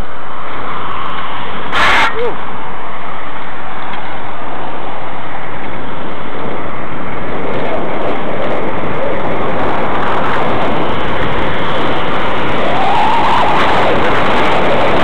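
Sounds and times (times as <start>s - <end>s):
passing traffic: 0.0s - 15.0s
road noise: 0.0s - 15.0s
wind rushing: 0.3s - 15.0s.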